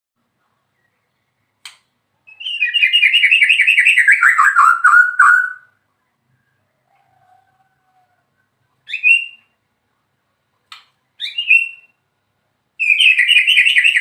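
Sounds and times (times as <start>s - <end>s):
songbird singing: 0.4s - 9.7s, 10.7s - 12.1s, 12.8s - 14.0s.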